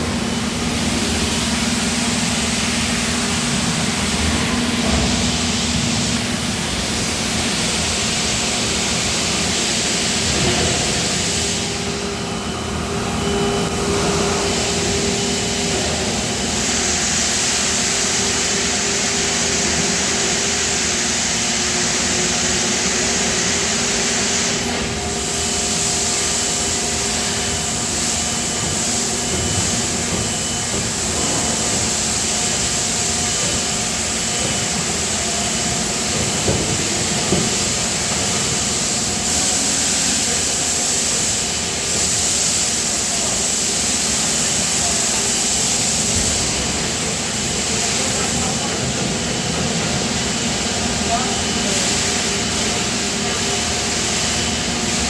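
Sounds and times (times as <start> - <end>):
factory machinery hum and hiss: 0.0 - 55.0.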